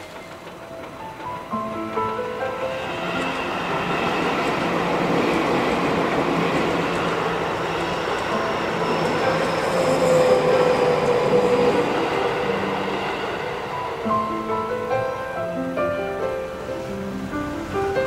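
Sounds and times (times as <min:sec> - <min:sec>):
train wheels rumbling on rails: 0:00.0 - 0:18.0
train whining tone: 0:00.0 - 0:18.0.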